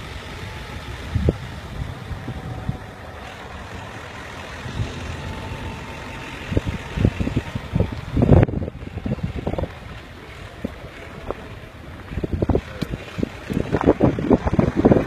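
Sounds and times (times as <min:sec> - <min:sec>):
car road and engine noise: 0:00.0 - 0:15.0
wind on microphone: 0:00.0 - 0:15.0.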